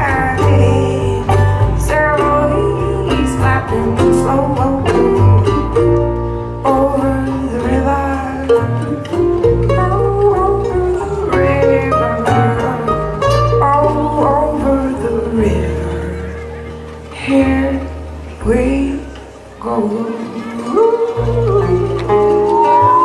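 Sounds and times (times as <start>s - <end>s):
acoustic guitar picking: 0.0s - 23.0s
banjo: 0.0s - 23.0s
plucked upright bass: 0.0s - 23.0s.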